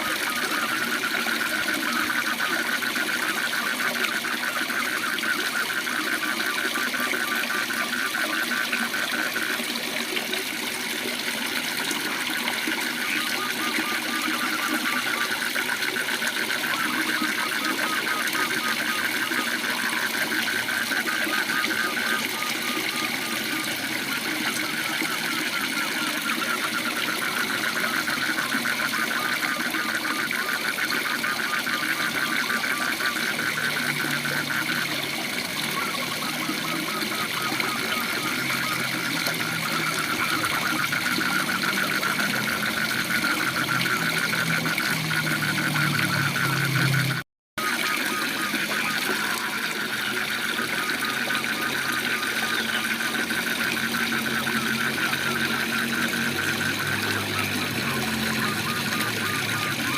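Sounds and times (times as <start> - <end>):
frog trilling: 0.0 - 59.9.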